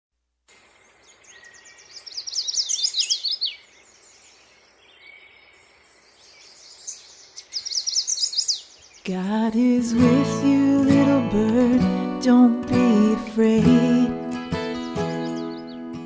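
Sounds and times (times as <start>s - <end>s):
songbirds chirping: 0.5s - 16.0s.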